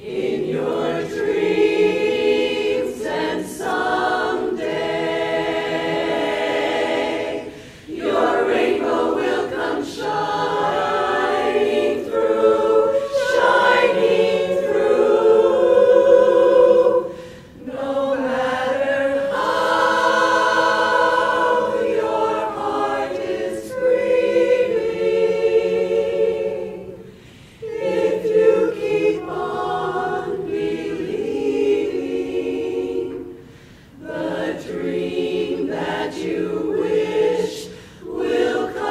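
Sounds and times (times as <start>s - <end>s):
women's chorus singing a cappella: 0.0s - 38.9s.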